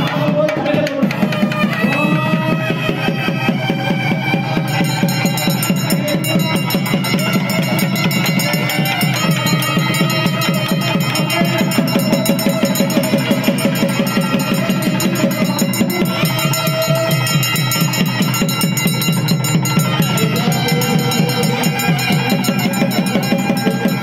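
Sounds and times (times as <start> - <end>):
music with fast drumming: 0.0 - 24.0.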